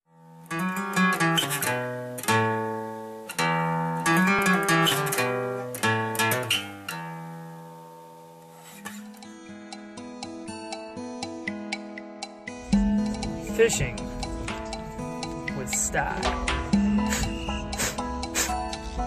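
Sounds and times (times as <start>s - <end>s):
acoustic guitar strummed chords: 0.1s - 19.0s
picked guitar notes: 0.5s - 7.8s, 8.8s - 19.0s.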